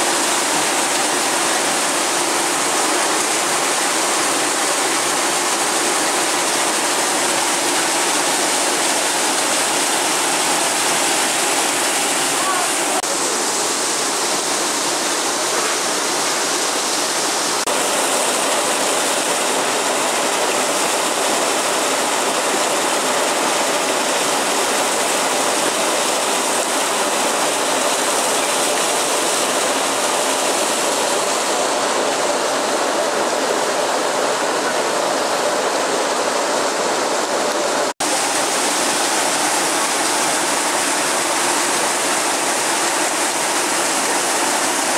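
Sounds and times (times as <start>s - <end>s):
water pouring into pool: 0.0s - 34.5s, 36.8s - 44.9s.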